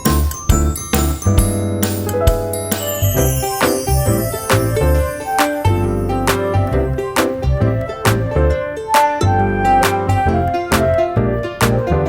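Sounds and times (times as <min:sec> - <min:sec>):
upbeat keyboard music with drums: 0:00.0 - 0:12.0.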